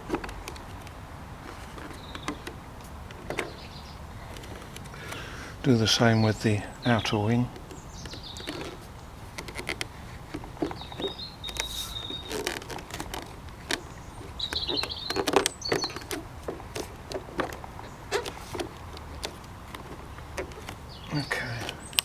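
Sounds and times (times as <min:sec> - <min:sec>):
plastic parts clicking together: 0:00.0 - 0:22.0.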